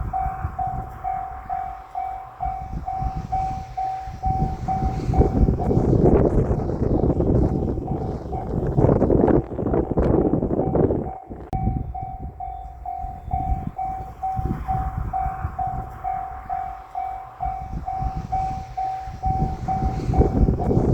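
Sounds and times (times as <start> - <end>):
level-crossing warning bell ringing: 0.0 - 20.9
low rumble: 0.0 - 20.9
rush of noise: 0.0 - 20.9.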